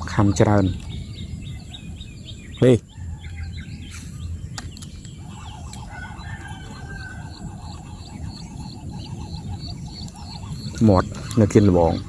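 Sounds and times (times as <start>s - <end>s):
birds calling: 0.0s - 12.0s
low rumble: 0.0s - 12.0s.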